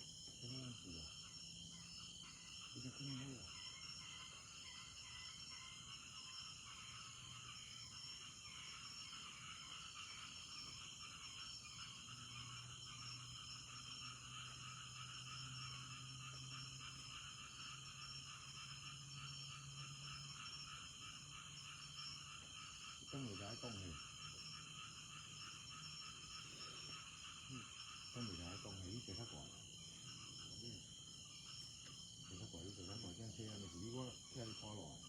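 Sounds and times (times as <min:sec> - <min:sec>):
insects and frogs calling: 0:00.0 - 0:35.0.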